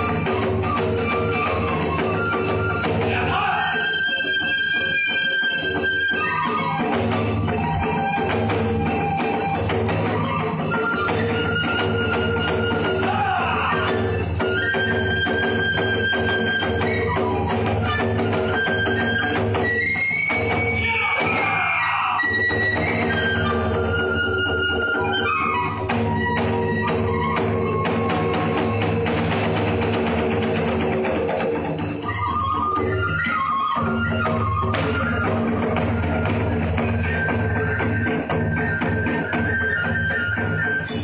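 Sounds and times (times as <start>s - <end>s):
drums beating: 0.0s - 4.0s, 5.8s - 25.0s, 25.6s - 40.7s
flute holding high notes: 0.0s - 29.5s, 31.8s - 41.0s.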